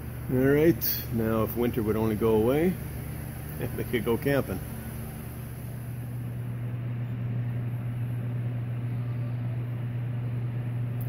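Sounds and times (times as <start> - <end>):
air-handling system humming: 0.0 - 11.0.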